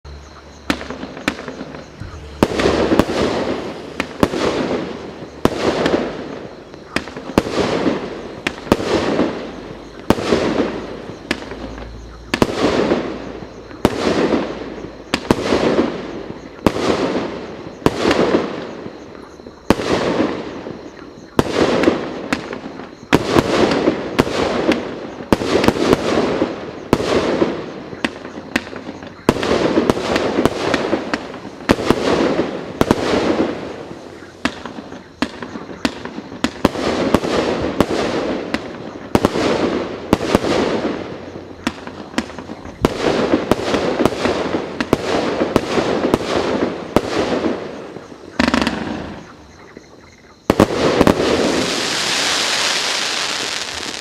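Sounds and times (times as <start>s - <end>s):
fireworks battery firing: 0.6s - 49.4s, 50.4s - 54.0s.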